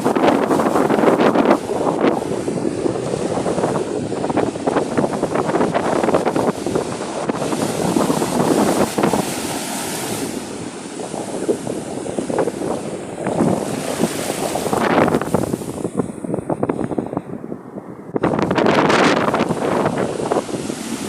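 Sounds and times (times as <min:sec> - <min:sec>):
sea waves breaking on shore: 0:00.0 - 0:21.0
wind buffeting microphone: 0:00.0 - 0:21.0.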